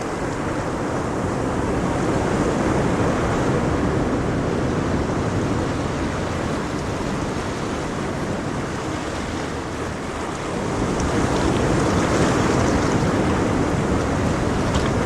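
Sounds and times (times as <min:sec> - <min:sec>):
ocean waves breaking on shore: 0:00.0 - 0:15.0.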